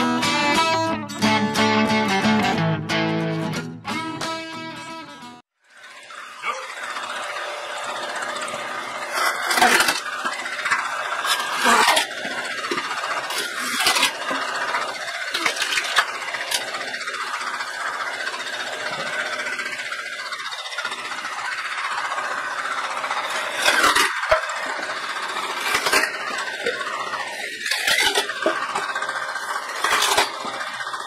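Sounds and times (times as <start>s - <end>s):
circular saw motor running: 4.0s - 31.0s
saw blade cutting wood: 5.7s - 31.0s.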